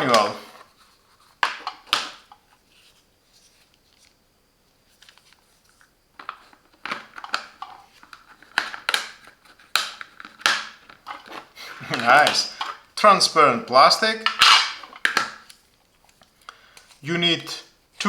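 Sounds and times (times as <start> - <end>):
plastic packaging clicks and rustles: 0.0 - 17.0.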